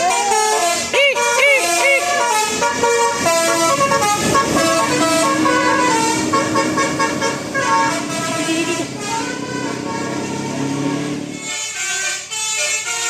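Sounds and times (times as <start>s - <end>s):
bus musical horn tune: 0.0s - 13.0s
street noise: 0.0s - 13.0s.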